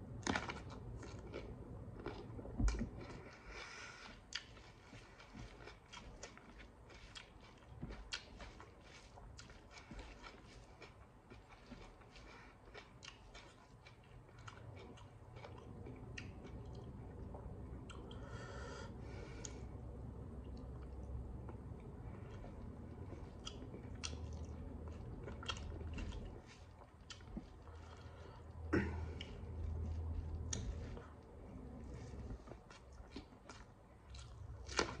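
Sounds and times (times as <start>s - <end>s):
chewing with mouth smacks: 0.2s - 18.4s, 20.4s - 35.0s.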